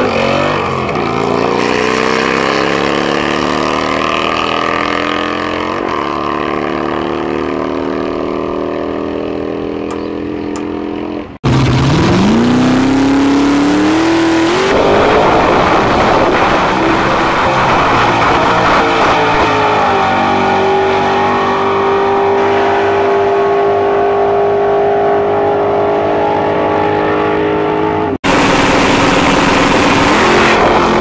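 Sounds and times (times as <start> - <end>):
car engine revving: 0.0 - 31.0
motorcycles at full throttle: 0.0 - 31.0.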